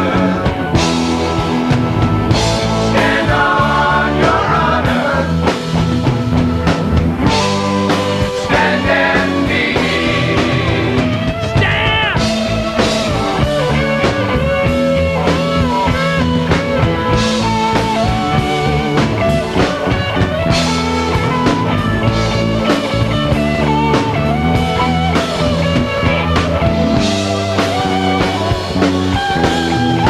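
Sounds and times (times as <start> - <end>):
bass: 0.0 - 30.0
drum kit beat: 0.0 - 30.0
electric guitar lead: 0.0 - 30.0.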